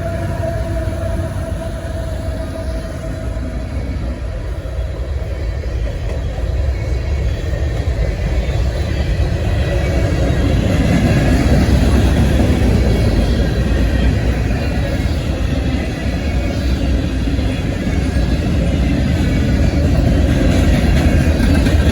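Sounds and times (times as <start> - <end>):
freight train rolling past: 0.0 - 21.9.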